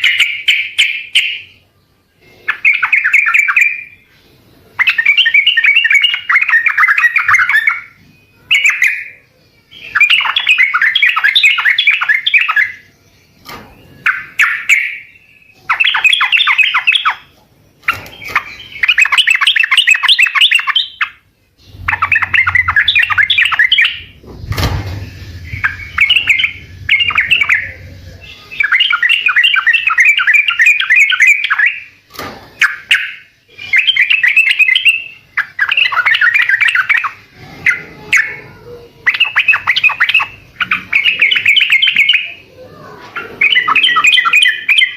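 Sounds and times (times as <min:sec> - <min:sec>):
bird chattering song: 0:00.0 - 0:44.9
faint low hum: 0:00.0 - 0:44.9.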